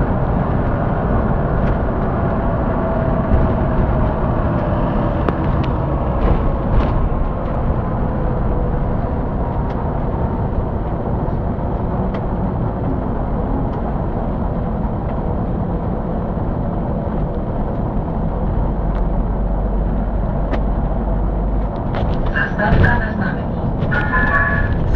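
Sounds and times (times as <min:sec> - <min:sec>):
bus engine and road noise: 0:00.0 - 0:24.9.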